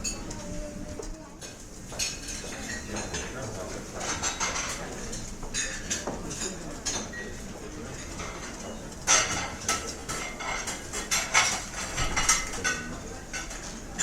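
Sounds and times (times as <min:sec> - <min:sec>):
restaurant background hubbub: 0:00.0 - 0:14.0
cutlery clinking on dishes: 0:01.4 - 0:14.0.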